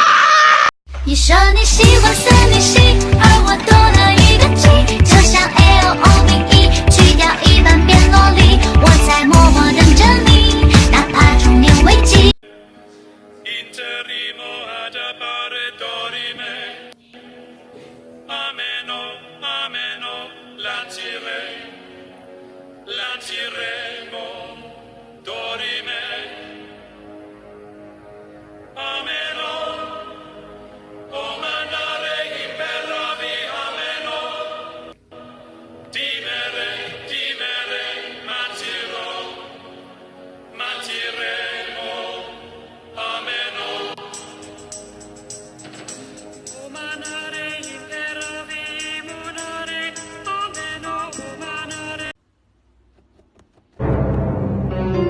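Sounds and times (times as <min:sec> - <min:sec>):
song with sung vocals: 0:00.0 - 0:52.2
background music with singing: 0:01.0 - 0:52.2.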